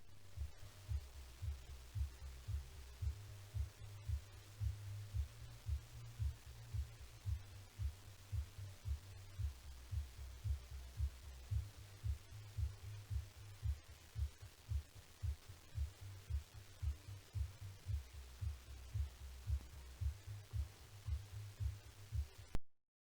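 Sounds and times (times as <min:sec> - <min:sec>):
heartbeat thumps: 0:00.0 - 0:22.6
steady low hum: 0:00.0 - 0:22.6.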